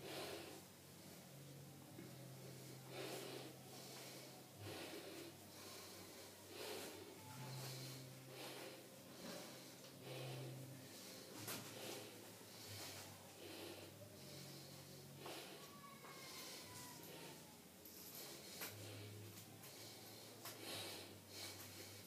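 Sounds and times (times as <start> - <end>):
faint low hum: 0.0 - 22.0
person breathing heavily: 0.0 - 22.0.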